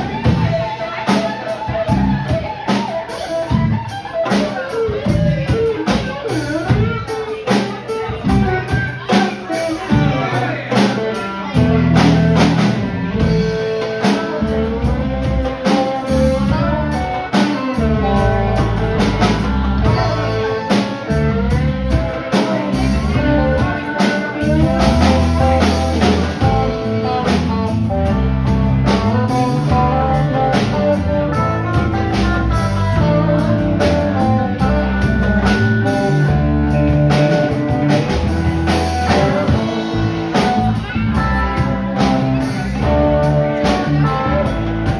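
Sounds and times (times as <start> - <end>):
live rock band playing: 0.0 - 44.9
sliding electric guitar lead: 0.0 - 44.9.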